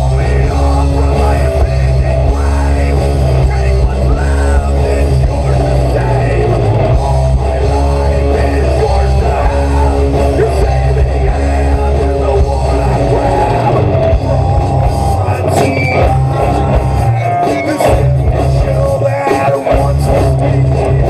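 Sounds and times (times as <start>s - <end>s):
deep bass: 0.0s - 21.0s
drums: 0.0s - 21.0s
electric guitars: 0.0s - 21.0s.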